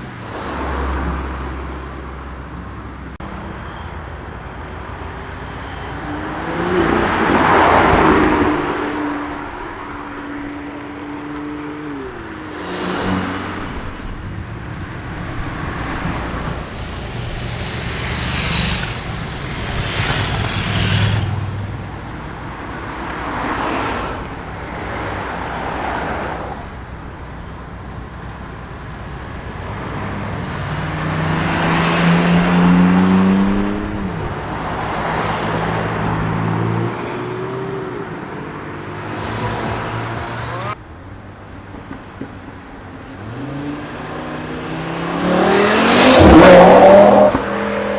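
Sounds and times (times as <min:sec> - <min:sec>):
cars revving past: 0:00.0 - 0:03.1, 0:05.6 - 0:27.0, 0:29.6 - 0:40.8, 0:43.1 - 0:47.9.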